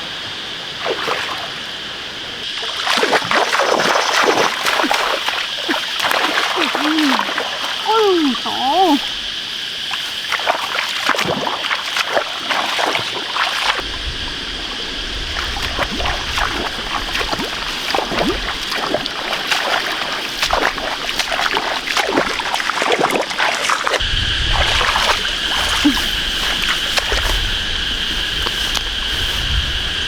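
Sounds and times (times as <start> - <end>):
splashing in muddy water: 0.8 - 1.8, 2.4 - 29.5.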